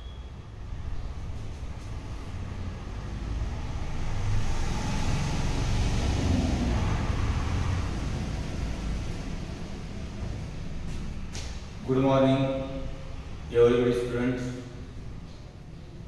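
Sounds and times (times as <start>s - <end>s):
vehicle passing by: 0.3s - 16.0s.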